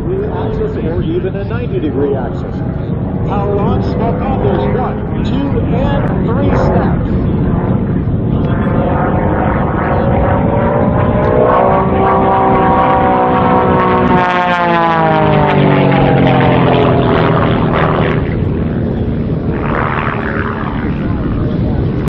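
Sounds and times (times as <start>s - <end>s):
biplane engine and propeller droning: 0.0s - 22.0s.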